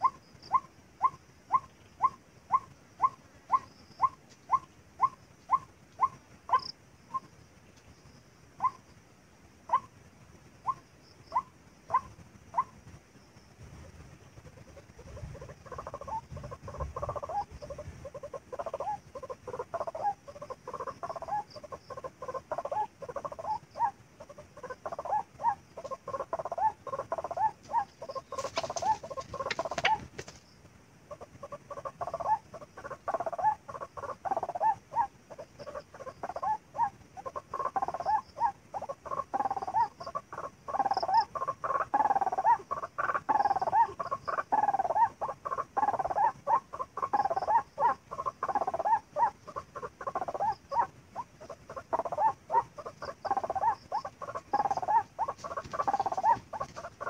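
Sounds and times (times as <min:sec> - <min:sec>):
waterhen croaking calls: 0:00.0 - 0:07.4, 0:08.5 - 0:09.0, 0:09.6 - 0:12.9, 0:14.1 - 0:30.3, 0:31.0 - 0:57.0.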